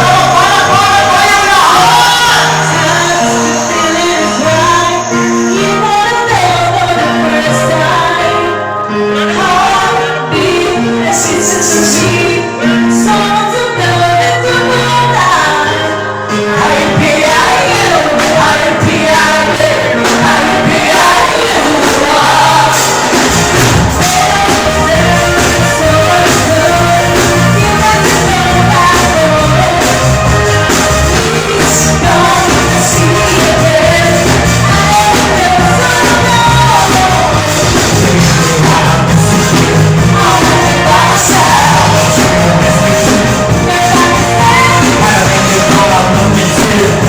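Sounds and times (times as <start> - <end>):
heavy bass line: 0.0 - 7.6, 16.5 - 47.0
loud club music with singer: 0.0 - 7.9, 16.5 - 47.0.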